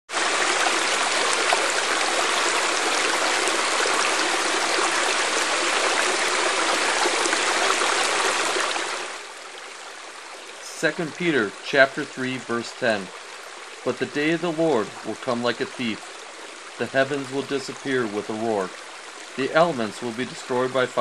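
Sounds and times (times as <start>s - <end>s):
stream running over rocks: 0.1s - 21.0s.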